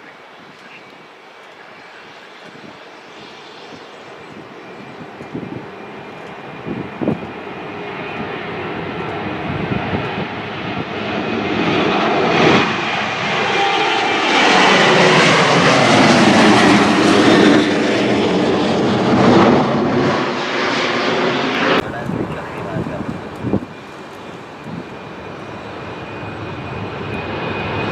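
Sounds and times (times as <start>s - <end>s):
airplane engines approaching: 0.0s - 27.9s.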